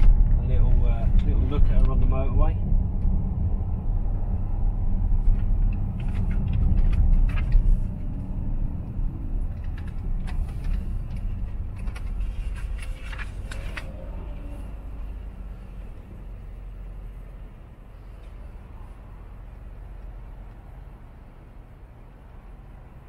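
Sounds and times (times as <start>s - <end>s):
road and engine rumble: 0.0s - 23.0s.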